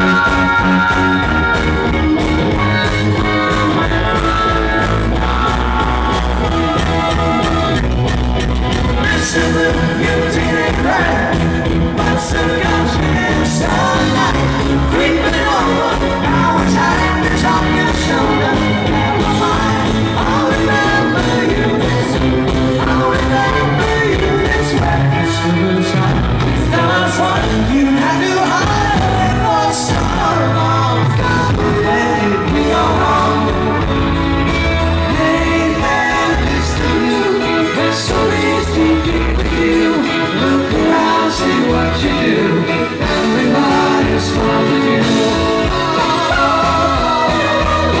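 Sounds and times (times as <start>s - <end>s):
bass guitar: 0.0s - 48.0s
drums: 0.0s - 48.0s
lead vocal singing: 2.5s - 7.2s, 8.8s - 48.0s
backing voices singing: 8.9s - 48.0s.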